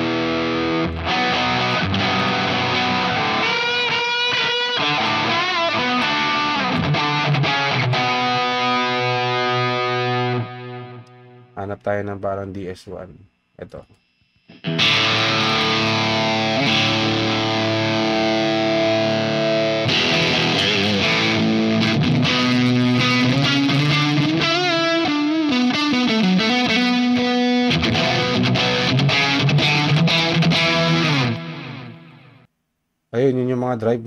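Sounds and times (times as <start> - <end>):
distorted electric guitar: 0.0 - 11.6, 13.9 - 32.5.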